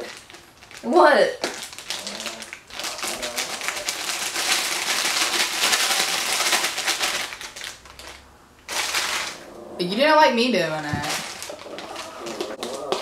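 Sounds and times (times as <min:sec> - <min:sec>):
plastic bag crinkling: 0:00.0 - 0:09.5, 0:10.4 - 0:13.0.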